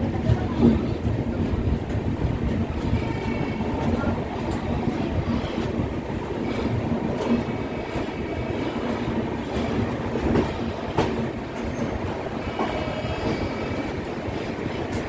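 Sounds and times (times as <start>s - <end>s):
train coaches rumbling on track: 0.0s - 15.0s.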